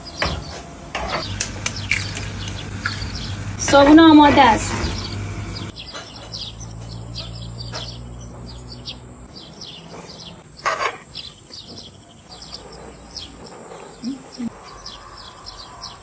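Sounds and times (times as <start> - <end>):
small birds chirping: 1.2 - 16.0.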